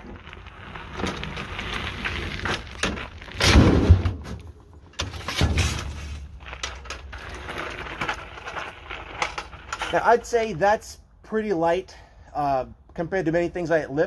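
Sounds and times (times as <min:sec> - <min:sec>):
gravel crunches: 0:00.0 - 0:11.6.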